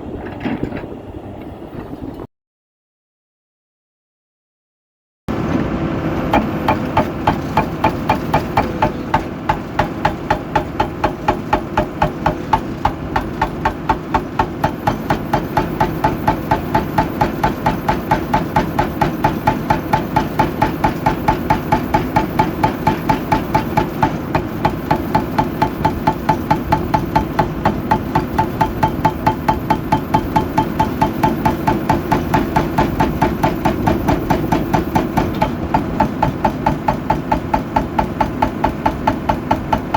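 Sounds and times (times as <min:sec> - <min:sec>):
heavy excavator engine: 0:05.3 - 0:39.9
loud regular knocking: 0:06.3 - 0:39.9.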